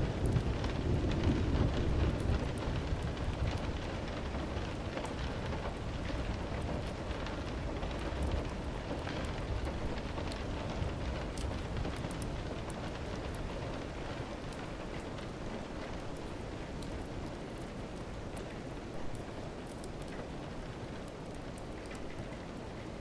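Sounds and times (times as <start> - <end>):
rain falling: 0.0 - 23.0
wood fire crackling: 0.0 - 23.0.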